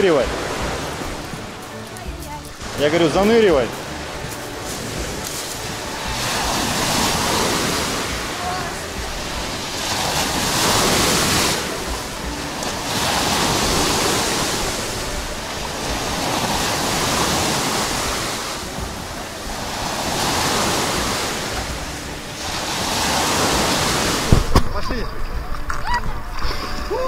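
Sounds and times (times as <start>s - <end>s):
surf breaking on pebble beach: 0.0s - 25.7s.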